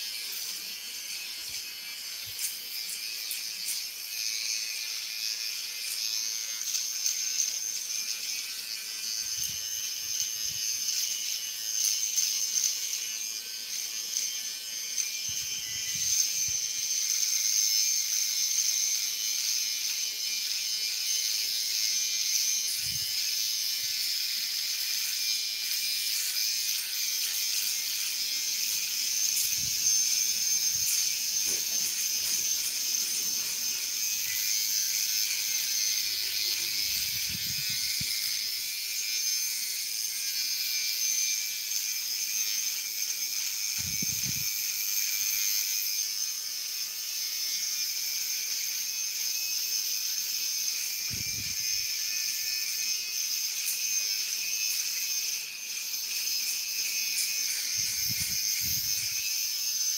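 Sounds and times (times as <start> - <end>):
electric hair trimmer buzzing: 0.0 - 59.9.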